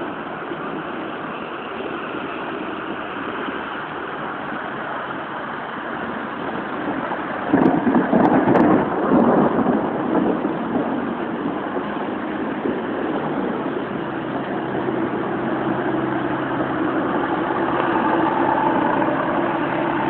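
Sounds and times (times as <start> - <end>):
steady rain: 0.0 - 20.0
uneven rumbling: 0.0 - 20.0.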